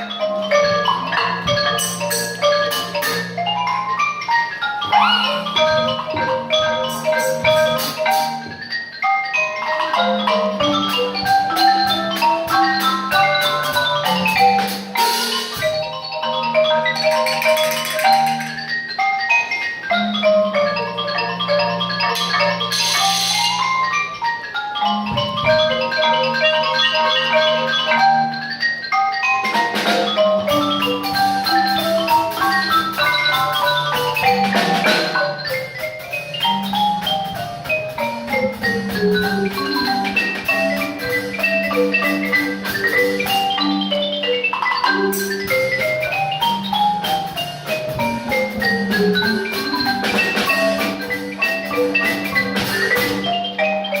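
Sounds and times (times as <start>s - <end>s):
marimba playing scales: 0.0s - 54.0s.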